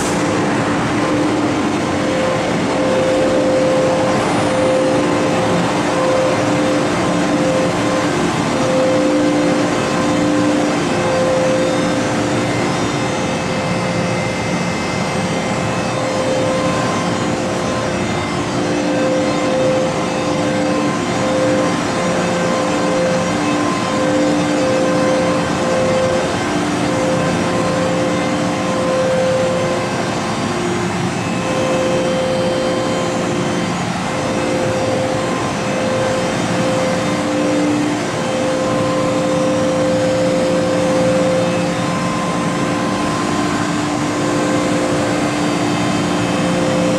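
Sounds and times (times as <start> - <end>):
electric train rumbling and humming: 0.0 - 46.9.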